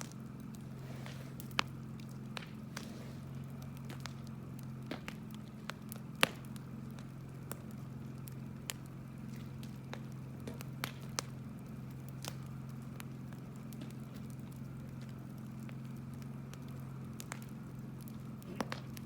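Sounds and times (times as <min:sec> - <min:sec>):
bonfire crackling and popping: 0:00.0 - 0:19.0
steady low hum: 0:00.0 - 0:19.0.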